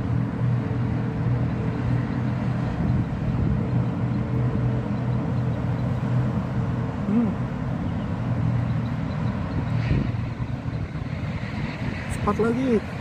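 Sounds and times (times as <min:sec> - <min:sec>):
road traffic drone: 0:00.0 - 0:13.0.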